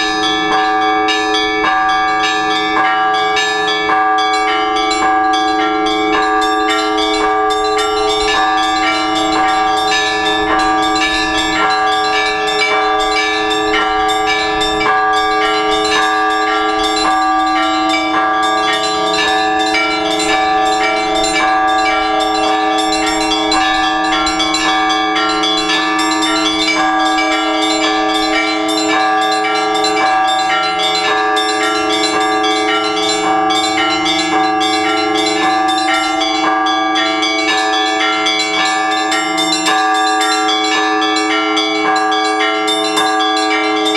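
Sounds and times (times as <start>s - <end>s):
large bells ringing: 0.0s - 43.9s
small bells struck rapidly: 0.0s - 43.9s.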